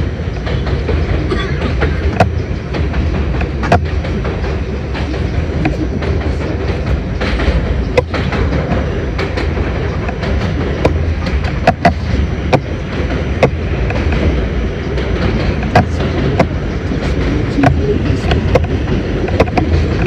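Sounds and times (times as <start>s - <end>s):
subway wheels and motors rumbling: 0.0s - 20.0s
wheels clicking over rail joints: 0.0s - 20.0s.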